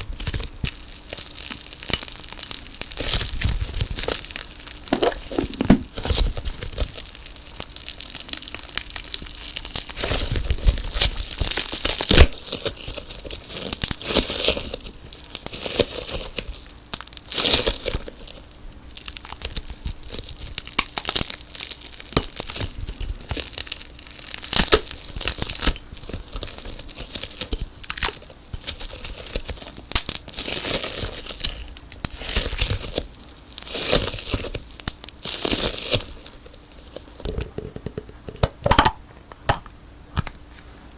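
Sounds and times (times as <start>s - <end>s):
sticky tape crinkling and tearing: 0.0s - 37.4s.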